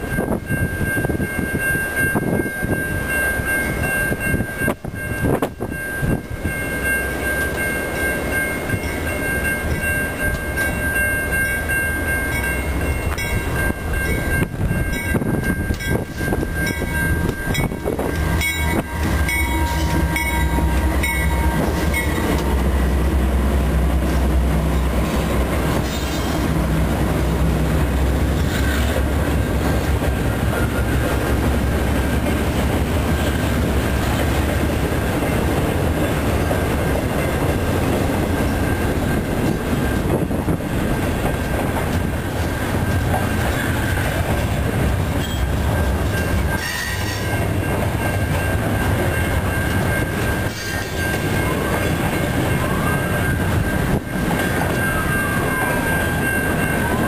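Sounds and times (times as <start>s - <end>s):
diesel locomotive engines: 0.0s - 57.0s.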